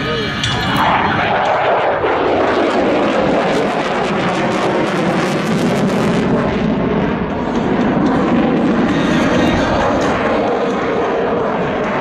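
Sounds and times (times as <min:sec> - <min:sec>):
fighter jet roaring past: 0:00.0 - 0:12.0.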